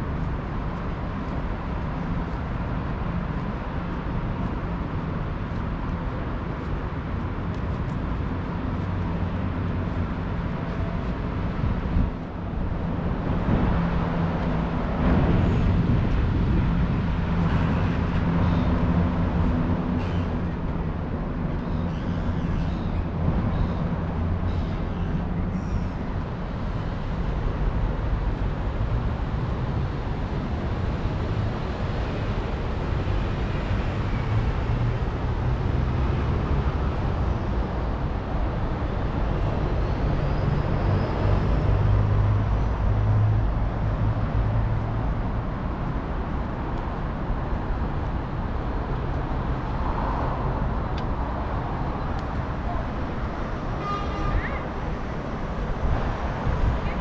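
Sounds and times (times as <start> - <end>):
traffic noise: 0.0 - 57.0.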